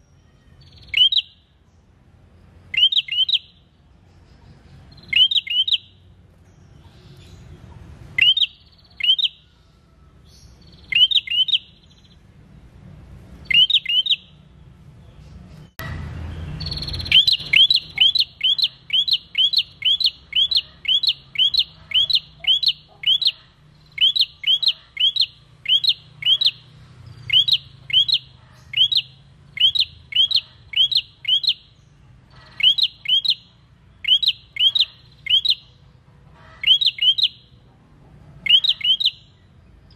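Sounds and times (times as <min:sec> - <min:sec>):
bird chirping: 0:00.0 - 0:37.7, 0:38.4 - 0:39.9.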